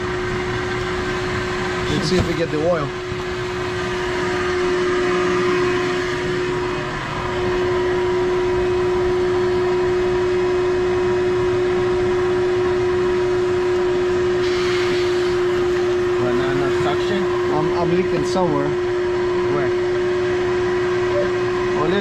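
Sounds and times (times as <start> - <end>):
vacuum motor hum and whine: 0.0 - 22.0.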